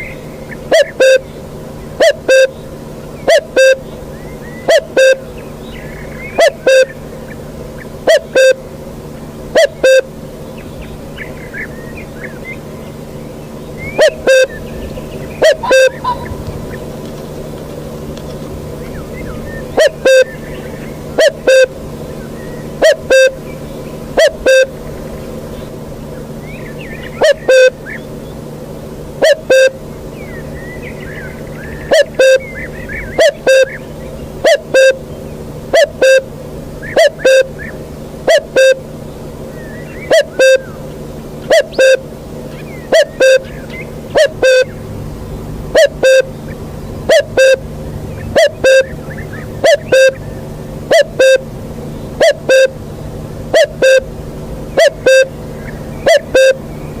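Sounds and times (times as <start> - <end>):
bird low two-note hoot: 0.0 - 57.0
small birds twittering: 0.0 - 57.0.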